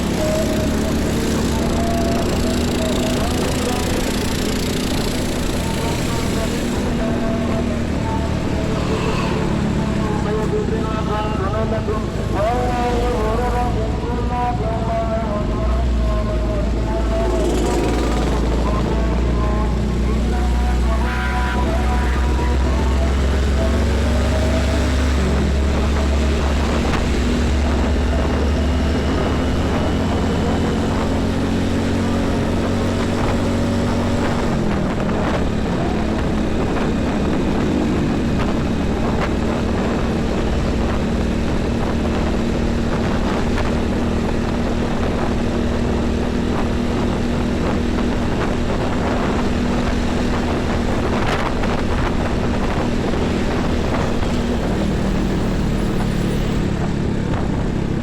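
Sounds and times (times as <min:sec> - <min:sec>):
diesel truck traffic drone: 0:00.0 - 0:58.0.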